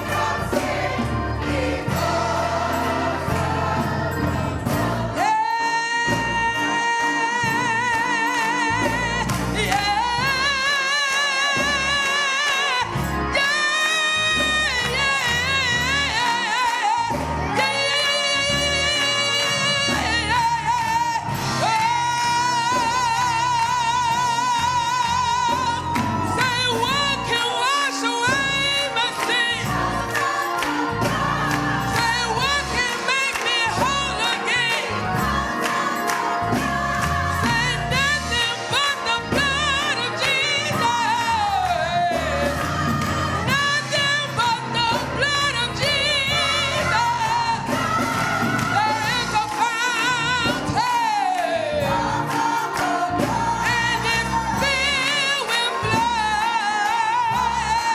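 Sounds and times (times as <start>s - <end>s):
gospel singing: 0.0s - 57.9s
instrumental accompaniment with beat: 0.0s - 57.9s.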